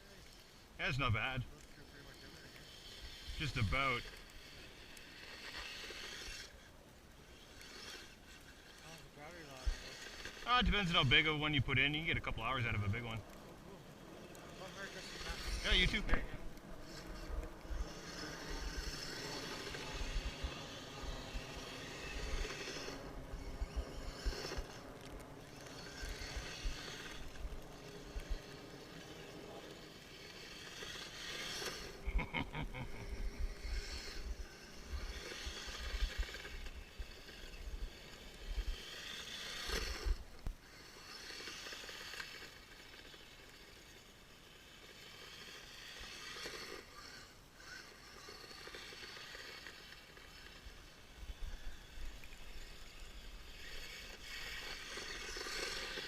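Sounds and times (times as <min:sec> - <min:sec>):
toy snowcat driving through snow: 0:00.0 - 0:56.0.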